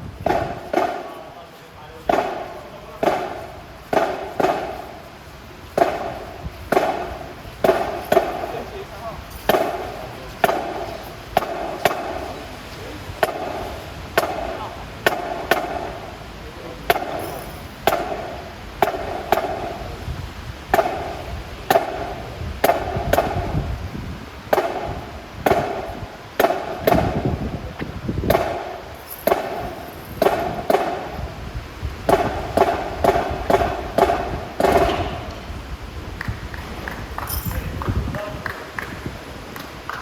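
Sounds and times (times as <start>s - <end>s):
marching band drum hits: 0.0s - 12.5s, 13.1s - 35.5s.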